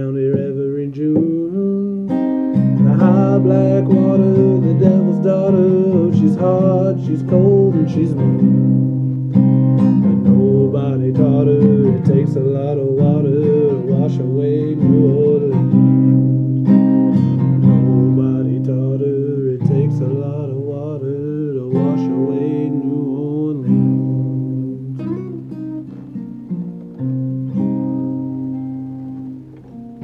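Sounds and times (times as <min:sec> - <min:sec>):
man singing: 0:00.0 - 0:09.0, 0:09.8 - 0:16.4, 0:17.4 - 0:25.9
acoustic guitar strumming: 0:00.0 - 0:30.0.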